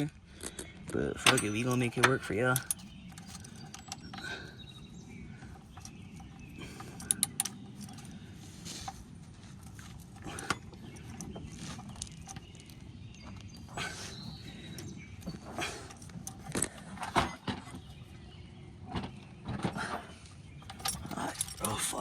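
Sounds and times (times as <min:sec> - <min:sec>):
handling rustles: 0:00.4 - 0:18.2.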